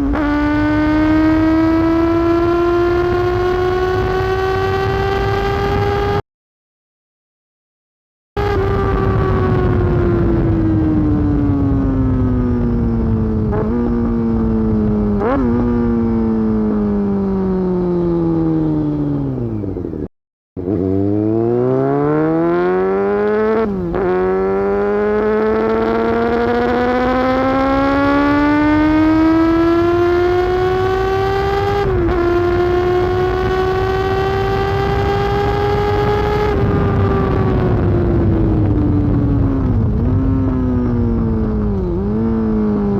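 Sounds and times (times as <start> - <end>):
motorcycle engine revving: 0.0 - 6.2, 8.4 - 42.9.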